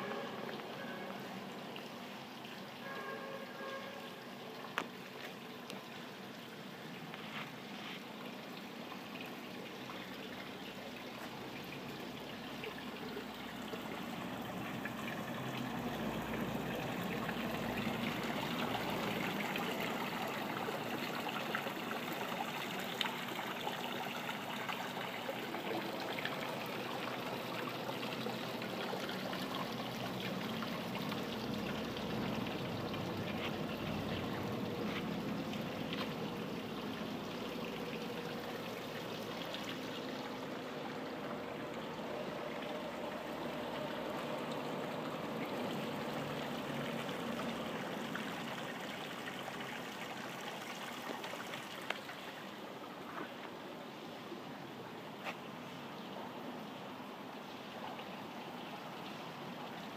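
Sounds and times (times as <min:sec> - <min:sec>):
water running from pipes: 0:00.0 - 0:52.5.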